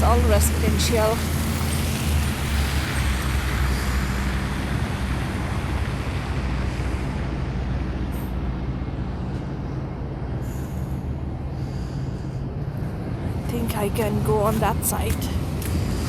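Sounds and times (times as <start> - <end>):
large vehicle engine humming: 0.0 - 16.0
traffic noise: 0.0 - 16.0.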